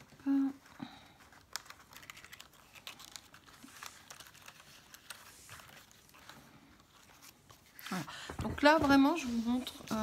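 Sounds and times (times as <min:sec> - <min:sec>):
thin paper rustling and crinkling: 0:00.0 - 0:10.0.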